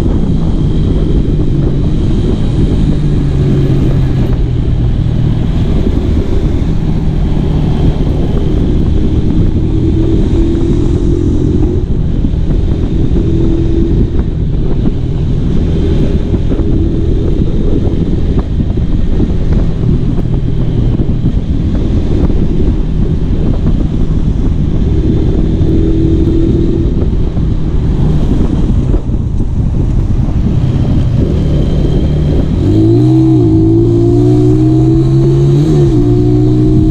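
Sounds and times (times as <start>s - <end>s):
motorcycle engine running hard: 0.0s - 36.9s
wind rushing over microphone: 0.0s - 36.9s.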